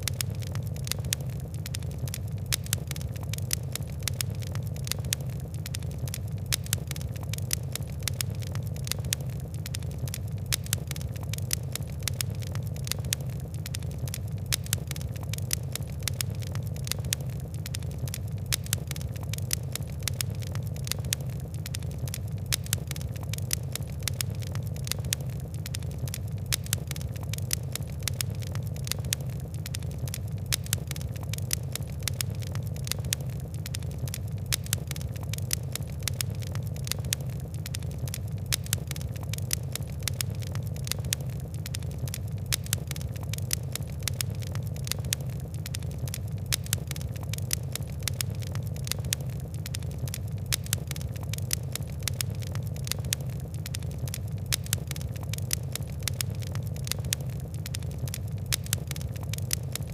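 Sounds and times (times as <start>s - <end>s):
fire crackling: 0.0s - 59.9s
low rumble of burning: 0.0s - 59.9s.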